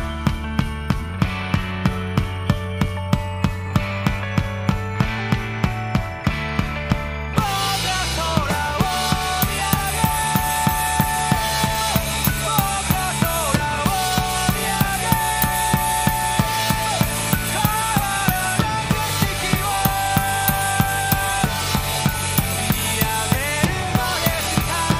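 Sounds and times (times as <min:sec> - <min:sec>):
rock band with singer: 0:00.0 - 0:24.9
rock drum kit with cymbals: 0:00.0 - 0:24.9.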